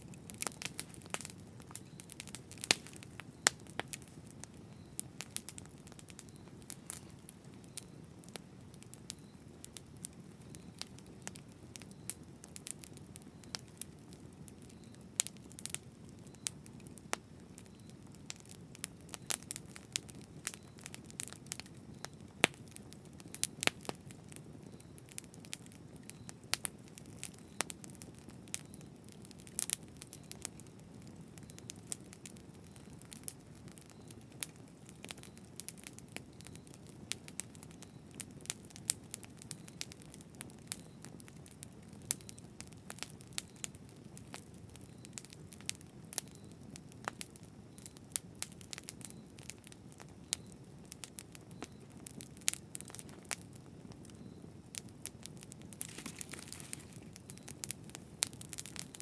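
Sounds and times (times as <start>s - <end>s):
flames rumbling: 0.0s - 59.0s
wood crackling and popping: 0.0s - 59.0s.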